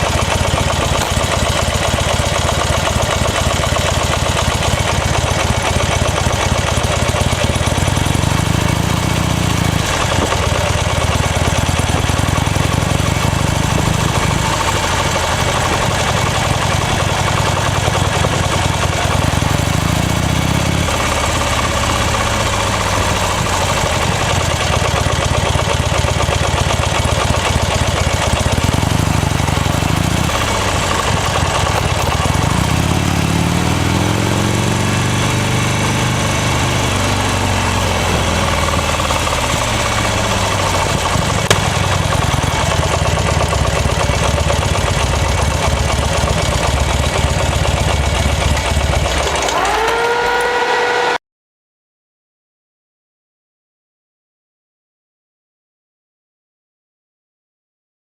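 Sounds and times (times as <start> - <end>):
motorcycle engine revving: 0.0 - 51.2.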